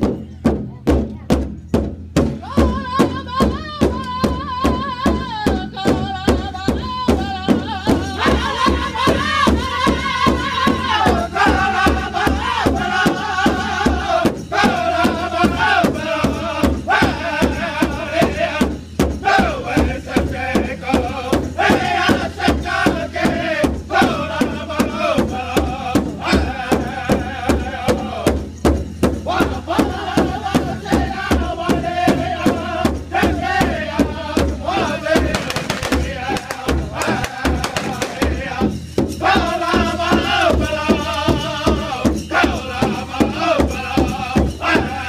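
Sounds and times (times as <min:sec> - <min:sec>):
steady big drumbeat: 0:00.0 - 0:45.0
men singing together: 0:02.4 - 0:45.0.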